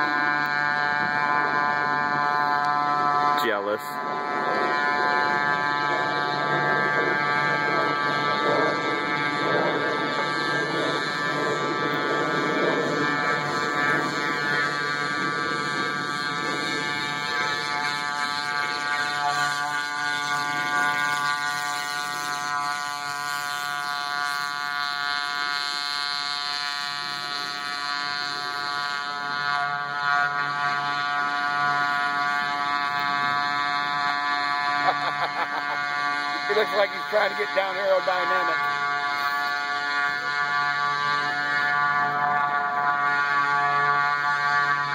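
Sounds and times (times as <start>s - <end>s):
two-stroke motor high drone: 0.0s - 44.9s.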